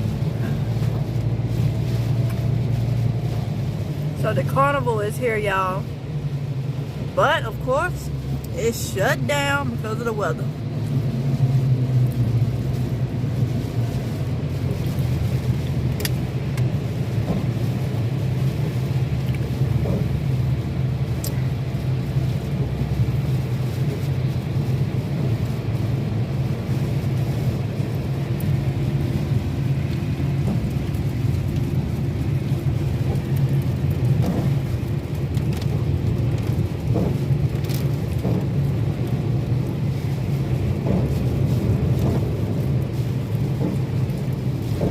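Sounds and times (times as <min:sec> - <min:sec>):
car engine droning: 0:00.0 - 0:44.9
road noise: 0:00.0 - 0:44.9.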